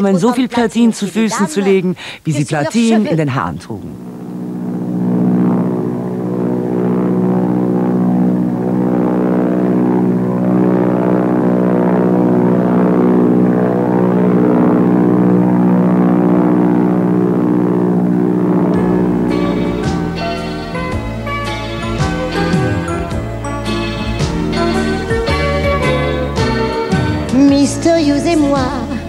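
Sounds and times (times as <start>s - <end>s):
propeller plane engine droning: 2.0s - 29.0s.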